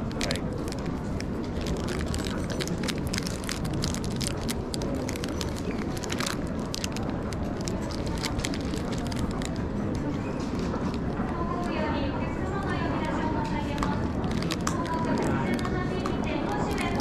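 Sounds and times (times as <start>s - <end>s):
food wrapper crinkling: 0.0s - 11.8s, 12.4s - 17.0s
low background rumble: 0.0s - 17.0s.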